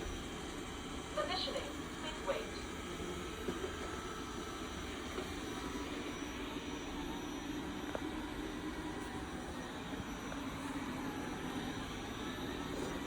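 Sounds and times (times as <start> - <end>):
robot vacuum humming: 0.0 - 13.0.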